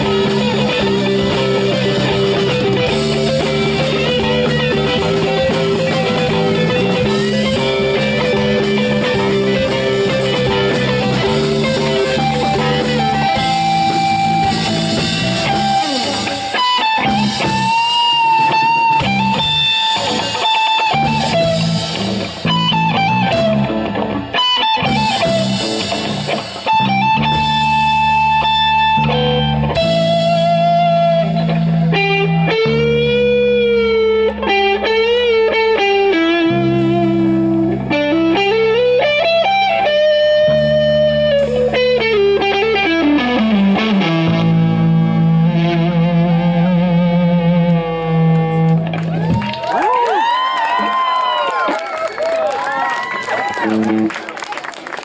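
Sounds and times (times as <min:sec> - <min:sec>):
drum kit: 0:00.0 - 0:51.4
bass guitar: 0:00.0 - 0:55.0
electric guitar: 0:00.0 - 0:55.0.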